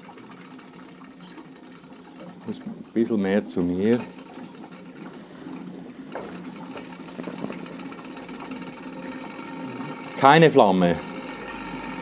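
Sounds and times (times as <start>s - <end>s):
model engine whirring: 0.0s - 12.0s.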